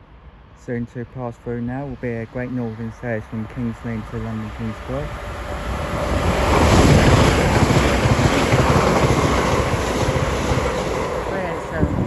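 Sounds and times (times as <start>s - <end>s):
train passing at speed: 0.0s - 12.0s
wind buffeting microphone: 2.0s - 12.0s.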